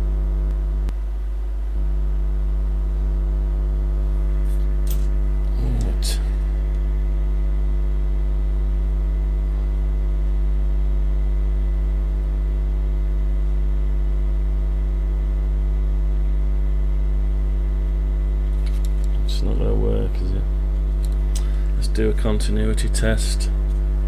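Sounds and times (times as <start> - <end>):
mains electrical hum: 0.0 - 24.0.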